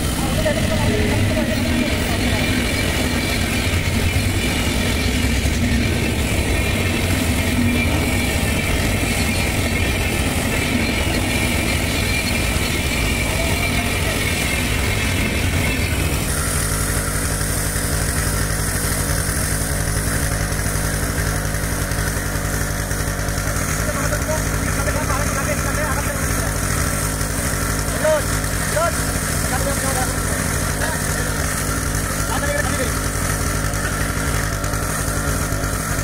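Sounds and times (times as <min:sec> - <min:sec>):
disc grinding through steel: 0:00.0 - 0:36.0
rail saw engine running: 0:00.0 - 0:36.0.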